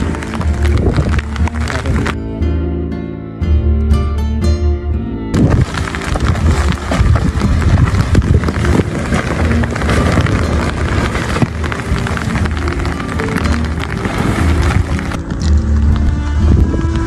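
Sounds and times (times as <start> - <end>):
wind buffeting microphone: 0.0 - 2.2, 5.3 - 17.0.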